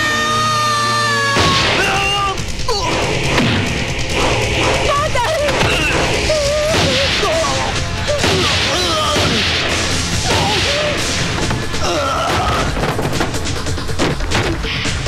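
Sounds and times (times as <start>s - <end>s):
dramatic action film music: 0.0s - 15.0s.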